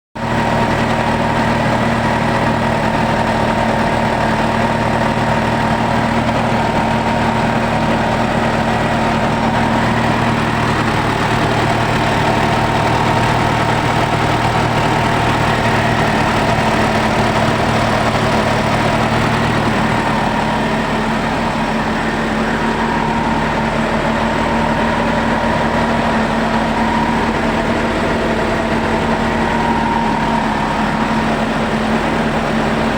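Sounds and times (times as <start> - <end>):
car engine idling: 0.2 - 32.9.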